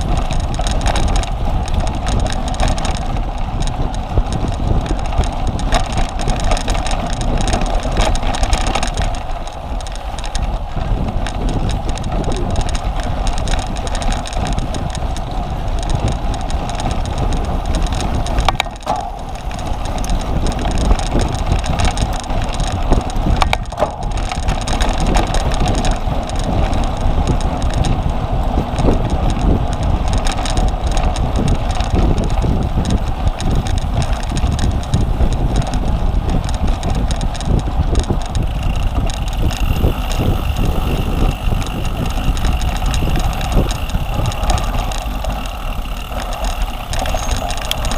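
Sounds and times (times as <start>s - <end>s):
bike rattles and knocks: 0.0s - 47.9s
wind rushing over microphone: 0.0s - 47.9s.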